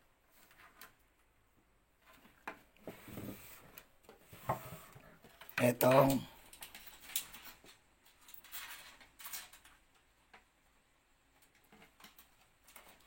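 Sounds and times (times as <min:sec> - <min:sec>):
cables clicking and rustling: 0:00.2 - 0:02.9, 0:04.9 - 0:13.0.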